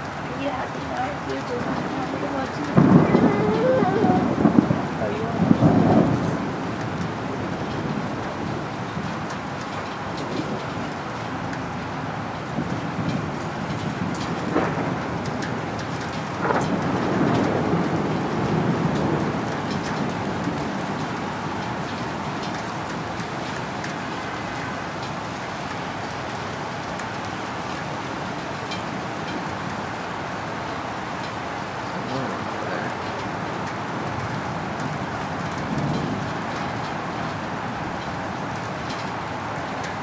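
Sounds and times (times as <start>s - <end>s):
steady rain falling: 0.0s - 40.0s
thunder rumble: 0.0s - 40.0s.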